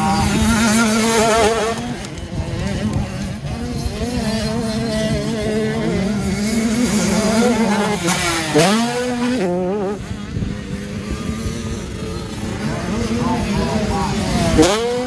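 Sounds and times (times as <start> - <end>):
motocross engines revving: 0.0 - 15.0.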